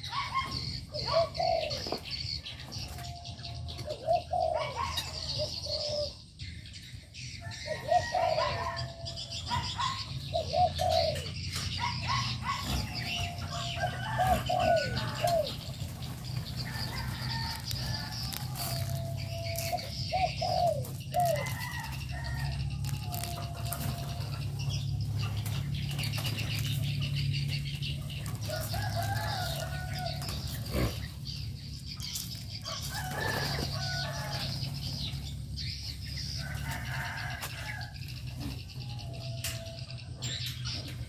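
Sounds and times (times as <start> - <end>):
doves cooing: 0.0 - 41.0
small birds chirping: 0.0 - 41.0.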